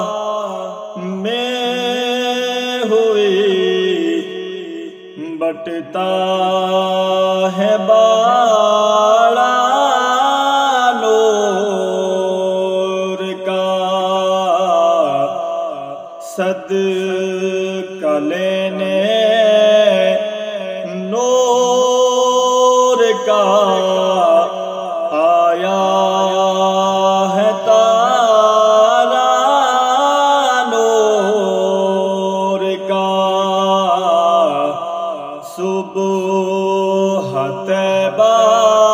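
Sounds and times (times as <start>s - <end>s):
man singing: 0.0s - 38.9s.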